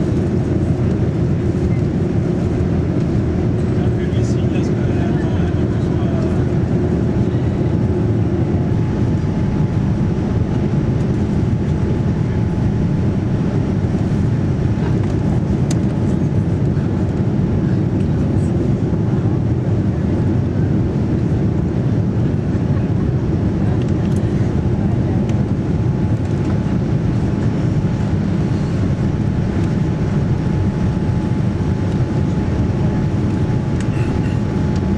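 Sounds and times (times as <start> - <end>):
aircraft cabin engine rumble: 0.0 - 34.9.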